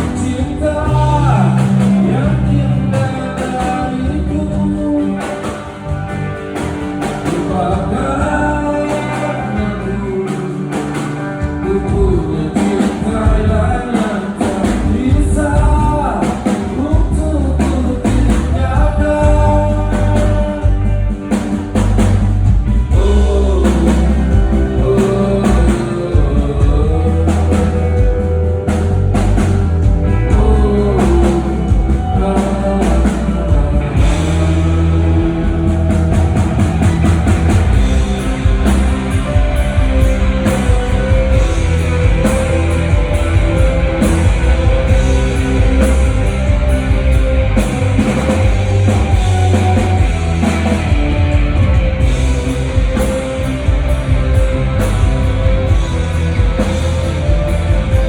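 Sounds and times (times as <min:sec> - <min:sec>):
person singing: 0:00.0 - 0:06.0, 0:07.1 - 0:21.6, 0:22.8 - 0:58.0
live pop-rock band: 0:00.0 - 0:58.0.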